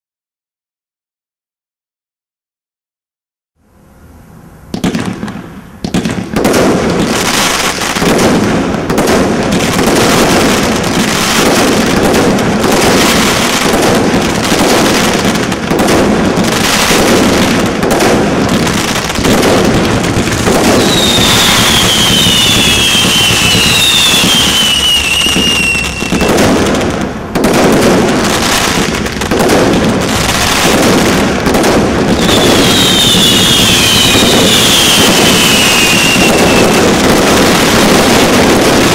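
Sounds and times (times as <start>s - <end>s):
falling firework whistles: 4.7s - 38.9s
firework launches and bursting pops: 4.7s - 38.9s.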